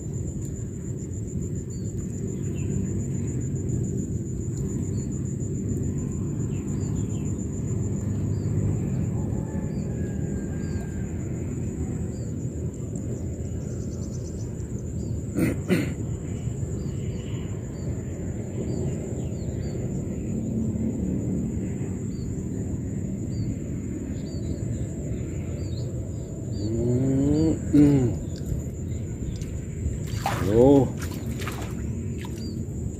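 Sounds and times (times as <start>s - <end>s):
wind rumble on microphone: 0.0s - 15.3s, 16.0s - 32.9s.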